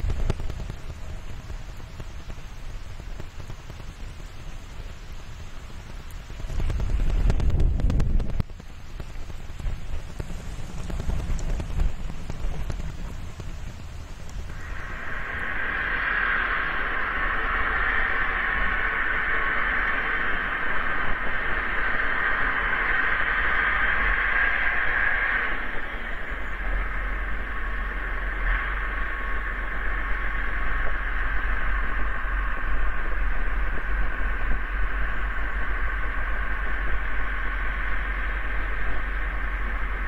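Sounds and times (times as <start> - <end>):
low electrical hum: 0.0 - 40.0
microphone hiss: 0.0 - 40.0.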